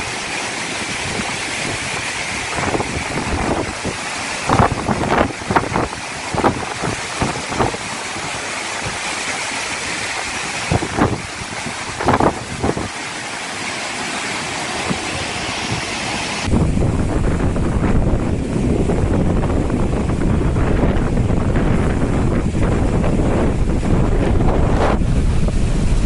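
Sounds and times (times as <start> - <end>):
wind gusts buffeting microphone: 0.0 - 26.0
wind rushing through trees: 0.0 - 26.0.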